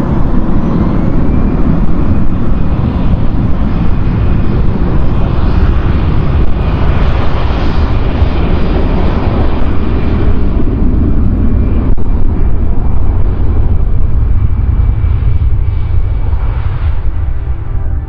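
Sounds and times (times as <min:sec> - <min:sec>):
faint high engine whine: 0:00.0 - 0:18.0
jet engines rumbling: 0:00.0 - 0:18.0.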